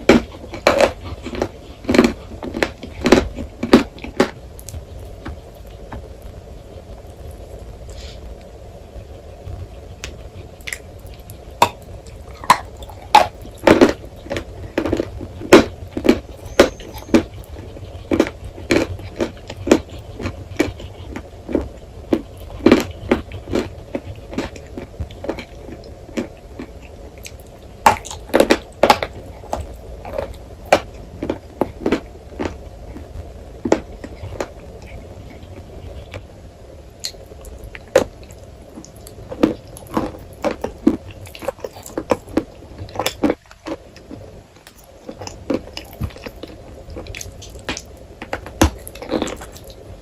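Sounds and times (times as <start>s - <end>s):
chalk crunching while chewed: 0.0s - 6.0s, 10.0s - 36.3s, 37.0s - 49.8s
steady low hum: 0.0s - 50.0s.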